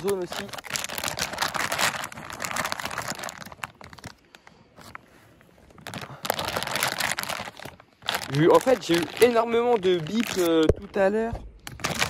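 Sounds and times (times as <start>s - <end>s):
plastic bag rustling: 0.0s - 11.1s, 11.7s - 12.0s.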